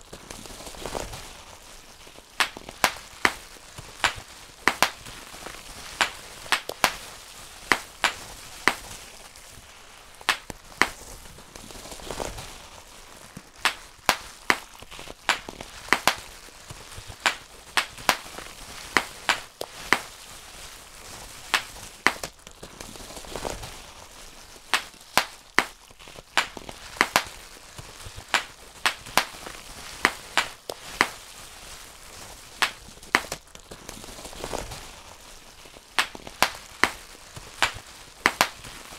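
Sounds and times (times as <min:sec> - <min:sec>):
bubble wrap popping: 0:00.0 - 0:38.9
plastic sheet rustling: 0:00.0 - 0:38.9.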